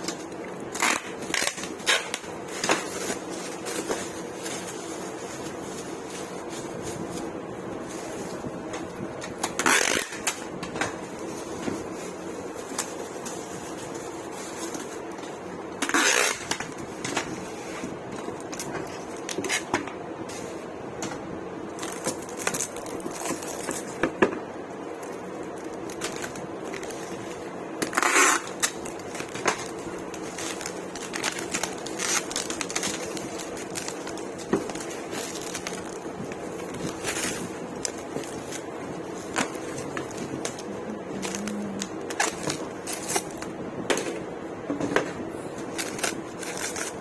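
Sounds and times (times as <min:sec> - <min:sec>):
steady hum: 0:00.0 - 0:47.0.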